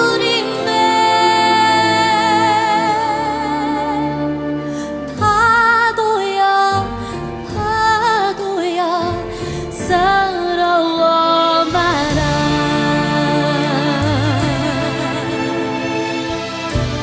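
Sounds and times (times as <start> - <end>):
woman singing slow song: 0.0 - 4.4, 5.1 - 16.1.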